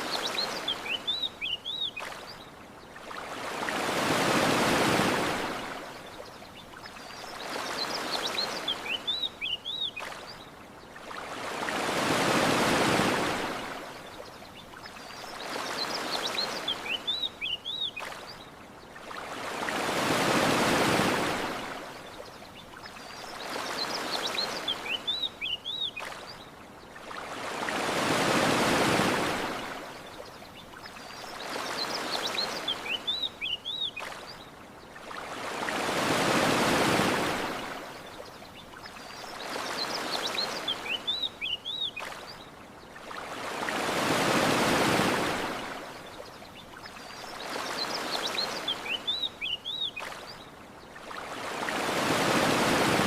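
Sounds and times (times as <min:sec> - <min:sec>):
ocean waves washing onto shore: 0:00.0 - 0:53.0.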